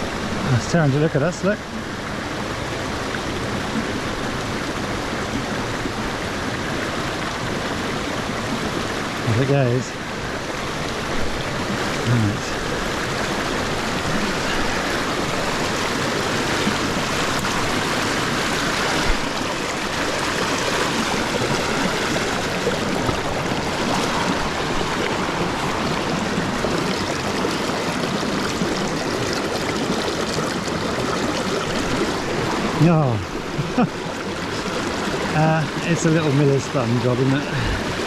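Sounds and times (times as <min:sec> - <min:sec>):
stream running over rocks: 0:00.0 - 0:38.0.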